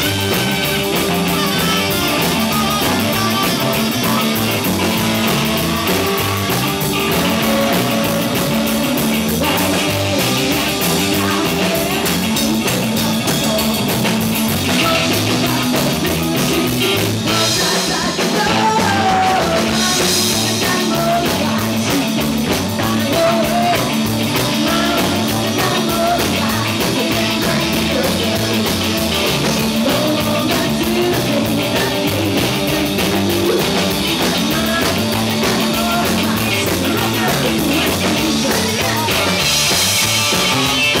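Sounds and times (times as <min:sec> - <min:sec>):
electric guitar: 0:00.0 - 0:41.0
person singing rock song: 0:00.0 - 0:41.0.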